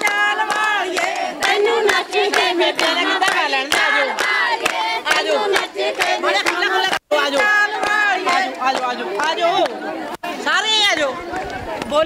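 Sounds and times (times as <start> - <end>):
rhythmic hand clapping: 0.0 - 10.2
crowd of women singing: 0.0 - 10.5.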